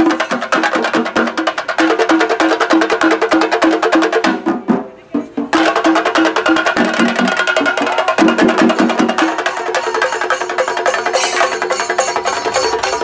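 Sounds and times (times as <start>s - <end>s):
drums beaten fast with sticks: 0.0s - 13.0s.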